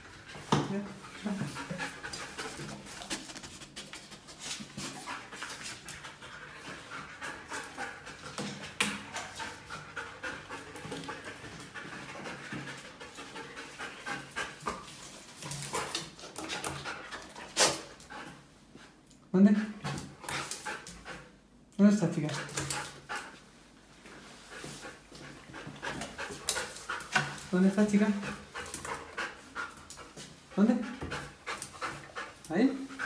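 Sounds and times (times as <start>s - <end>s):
dog panting quickly: 0.1s - 18.9s, 19.6s - 21.4s, 22.2s - 23.4s, 24.5s - 33.0s.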